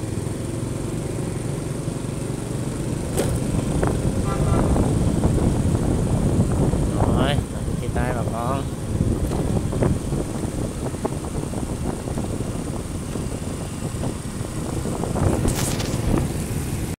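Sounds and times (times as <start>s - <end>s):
motorbike engine and tyre noise: 0.0s - 17.0s
wind rumbling on microphone: 2.8s - 17.0s.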